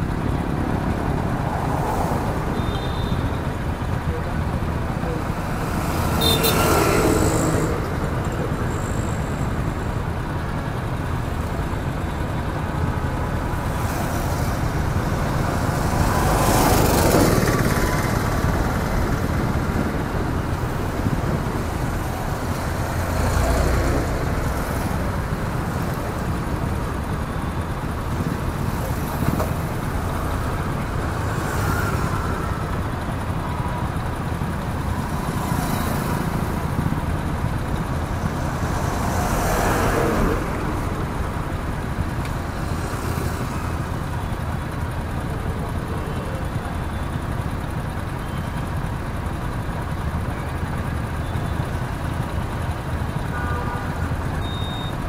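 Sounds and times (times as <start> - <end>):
motorcycle engine and road noise: 0.0 - 55.0
vehicles passing close by: 0.0 - 55.0.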